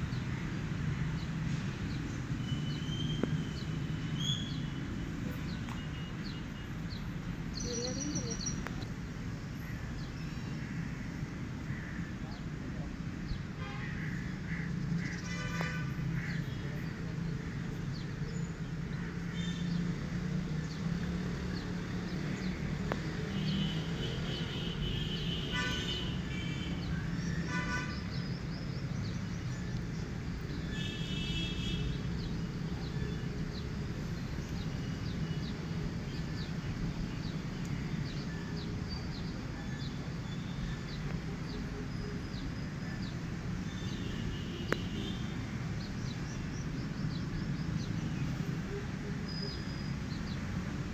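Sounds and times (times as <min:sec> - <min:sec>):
low drone of traffic: 0:00.0 - 0:50.9.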